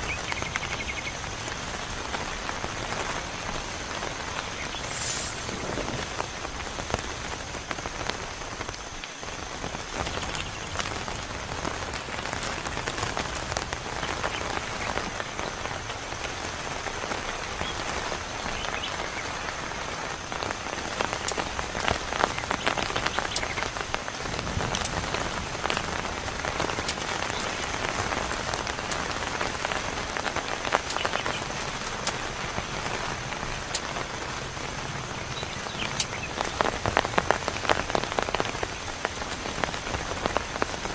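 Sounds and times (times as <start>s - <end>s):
heavy rain falling: 0.0s - 40.9s
close raindrop impacts: 0.1s - 40.9s.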